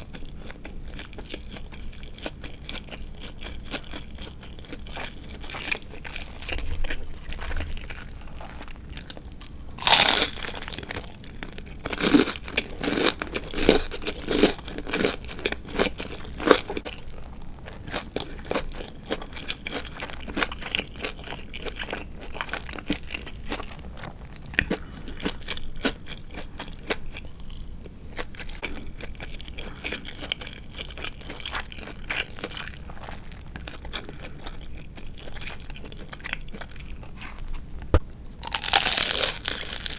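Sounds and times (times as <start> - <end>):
crunchy chewing of fried chicken: 0.0 - 39.9.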